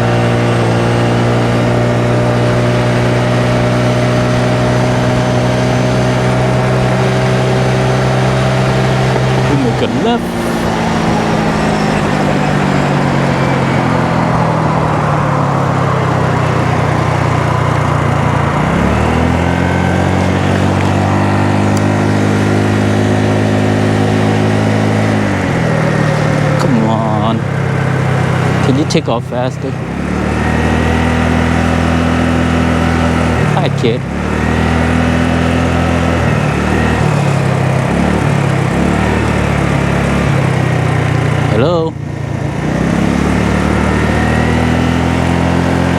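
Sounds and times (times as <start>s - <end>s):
small engine running: 0.0s - 45.9s.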